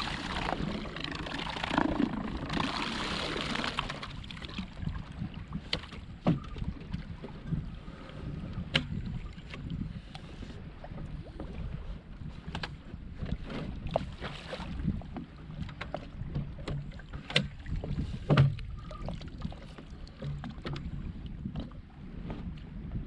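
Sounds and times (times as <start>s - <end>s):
wind rumble on microphone: 0.0s - 23.0s
knocks and clunks of boat gear: 3.9s - 23.0s.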